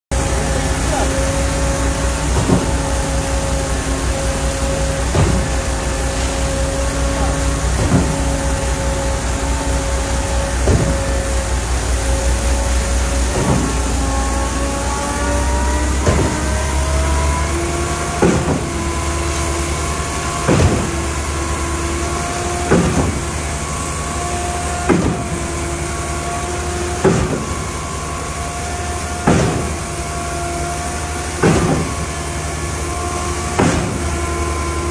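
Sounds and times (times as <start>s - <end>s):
engine and hydraulic hum with whine: 0.1s - 34.9s
pumping cylinders clunking: 0.1s - 34.9s.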